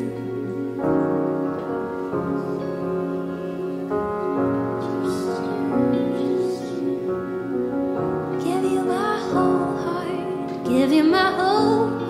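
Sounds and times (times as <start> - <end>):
soft keyboard worship music: 0.0 - 12.0.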